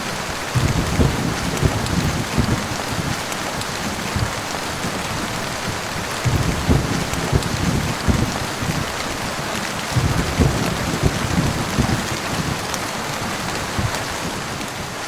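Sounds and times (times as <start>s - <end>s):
heavy rain hissing: 0.0s - 15.0s
distant thunder rumbling: 0.3s - 15.0s.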